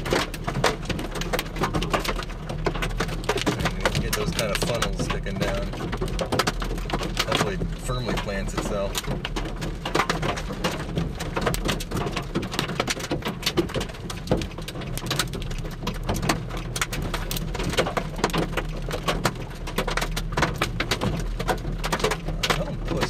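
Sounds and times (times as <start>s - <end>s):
heavy rain falling: 0.0s - 23.0s
raindrops ticking close by: 0.0s - 23.0s.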